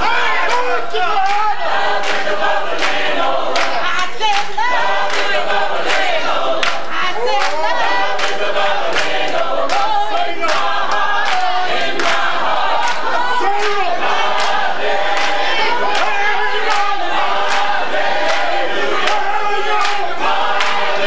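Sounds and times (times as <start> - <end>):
vocal group singing in harmony: 0.0 - 21.0.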